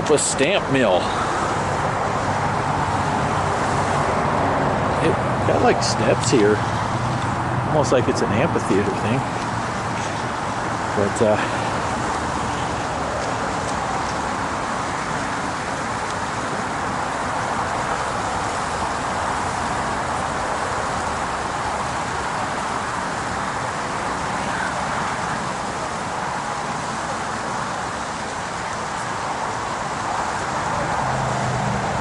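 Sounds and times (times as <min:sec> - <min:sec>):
highway traffic rushing: 0:00.0 - 0:32.0.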